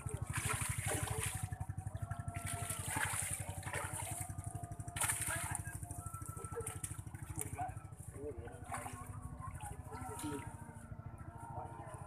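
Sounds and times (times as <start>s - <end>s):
fish thrashing and splashing: 0.0s - 10.5s
small engine throbbing: 0.0s - 12.0s.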